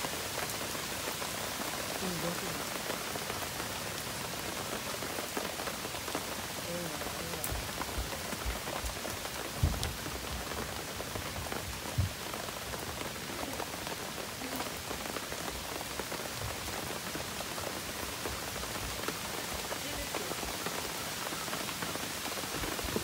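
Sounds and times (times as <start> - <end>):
heavy rain on grass and puddles: 0.0 - 23.0.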